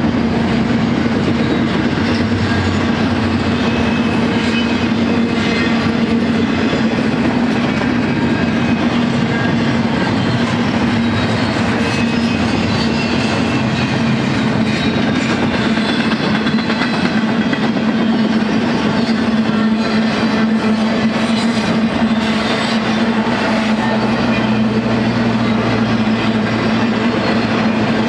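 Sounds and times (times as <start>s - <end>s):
freight train wheels rolling: 0.0s - 28.0s.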